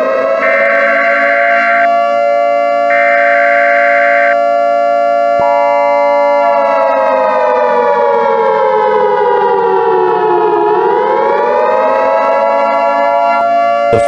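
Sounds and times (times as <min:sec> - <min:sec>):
civil defense siren wailing: 0:00.0 - 0:14.0.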